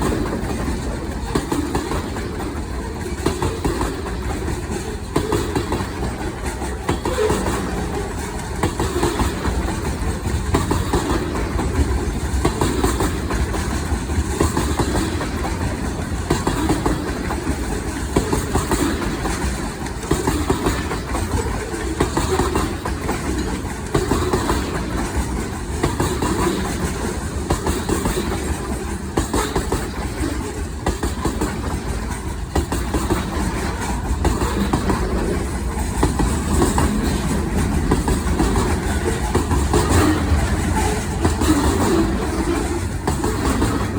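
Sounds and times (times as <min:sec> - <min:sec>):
train running on rails: 0:00.0 - 0:43.9.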